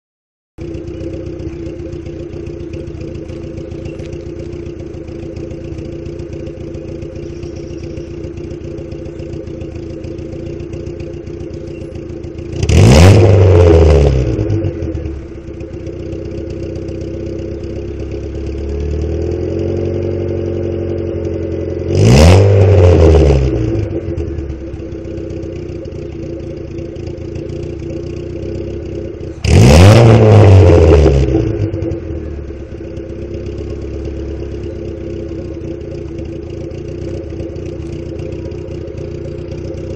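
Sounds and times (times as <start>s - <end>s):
car engine idling and revving: 0.6s - 39.9s.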